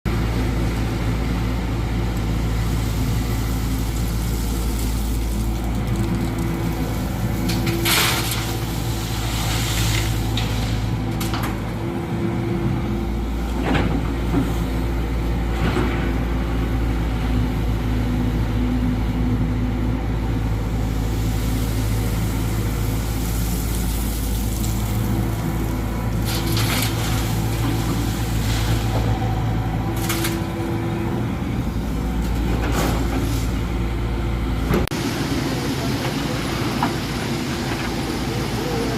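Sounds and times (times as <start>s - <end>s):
excavator diesel engine running: 0.1s - 38.9s.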